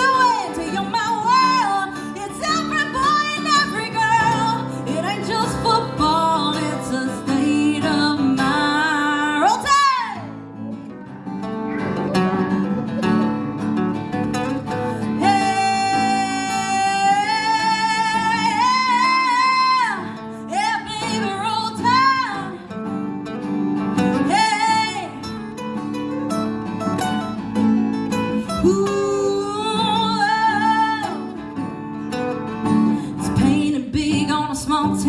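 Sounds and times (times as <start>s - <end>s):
strummed acoustic guitar: 0.0s - 35.0s.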